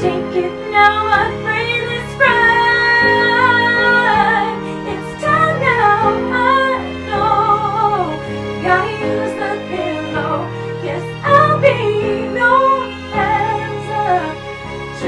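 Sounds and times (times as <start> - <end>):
woman singing: 0.0 - 14.4
musical accompaniment: 0.0 - 15.0.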